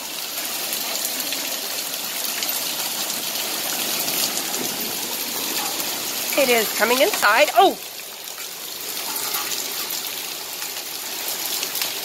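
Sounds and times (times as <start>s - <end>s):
hail falling on hard floor: 0.0s - 12.0s.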